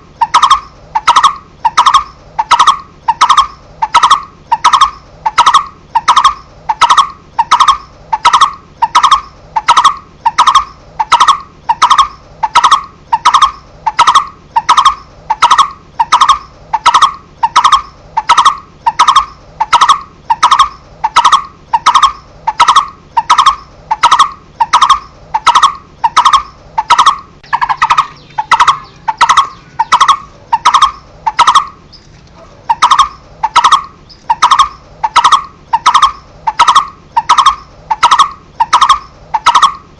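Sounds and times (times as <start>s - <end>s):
bird hollow tuk notes: 0.0s - 39.9s.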